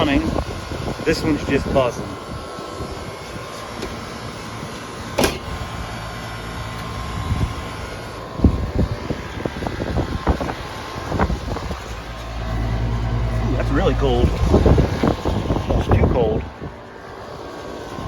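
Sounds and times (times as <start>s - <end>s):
air conditioner buzzing: 0.0s - 18.0s
air conditioner fan hum: 0.0s - 18.0s.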